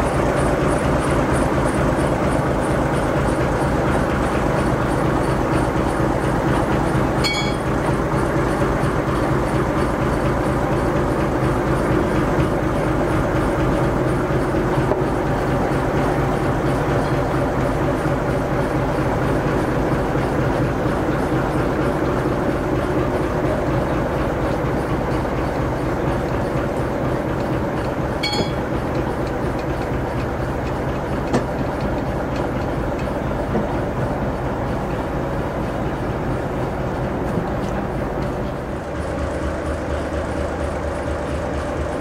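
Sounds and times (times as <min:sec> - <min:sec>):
diesel locomotive engine running: 0:00.0 - 0:42.0
wheels rumbling on rails: 0:00.0 - 0:42.0.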